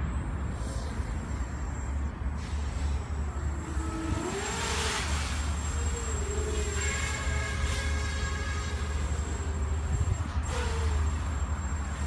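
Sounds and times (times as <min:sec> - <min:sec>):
quadcopter motors whining: 0:00.0 - 0:12.0
wind rumble on microphone: 0:00.0 - 0:12.0.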